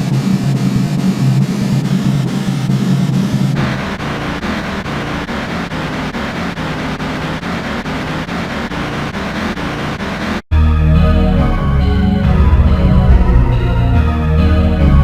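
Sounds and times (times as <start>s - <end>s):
distorted electronic music: 0.1s - 10.4s, 12.2s - 15.0s.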